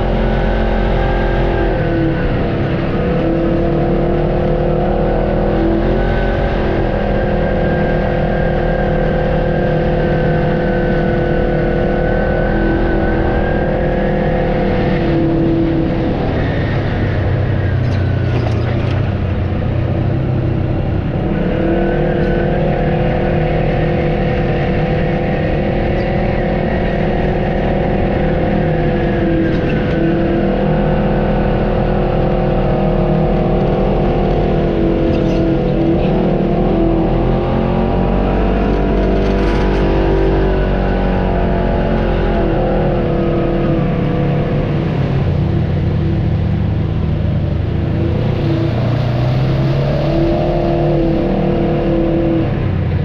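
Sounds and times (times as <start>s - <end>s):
off-road vehicle engine running: 0.0s - 53.0s.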